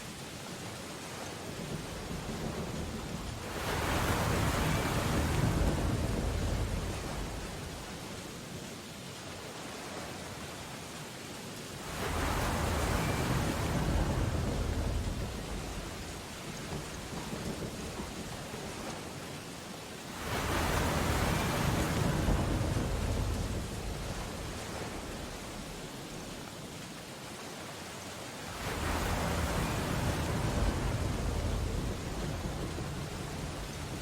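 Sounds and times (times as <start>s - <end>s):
rain on window glass: 0.0s - 8.5s, 11.8s - 27.3s, 28.6s - 34.0s
ocean waves crashing: 0.0s - 8.6s, 11.7s - 34.0s.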